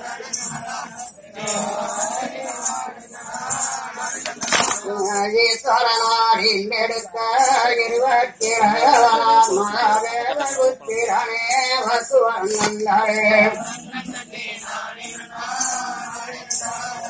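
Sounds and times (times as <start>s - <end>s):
folk song singing: 0.0s - 17.0s
jingling percussion beat: 0.0s - 17.0s.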